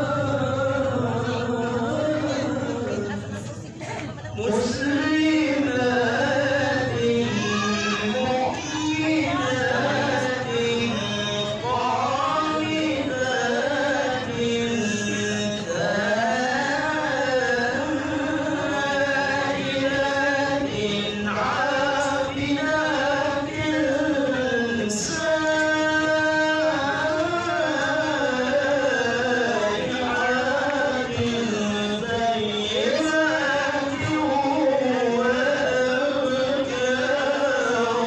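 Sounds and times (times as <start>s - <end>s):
man reciting melodically: 0.0s - 38.0s.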